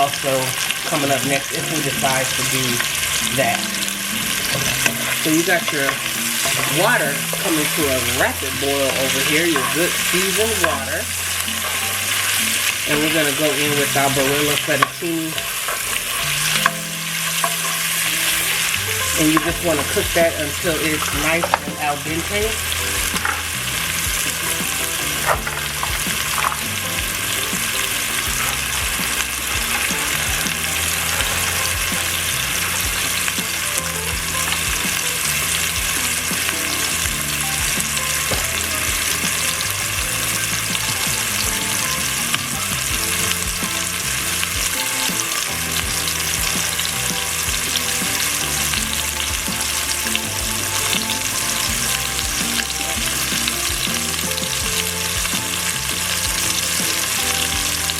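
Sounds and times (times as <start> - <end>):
sausage sizzling in a pan: 0.0 - 57.9
sharp crackles of frying: 0.0 - 57.9.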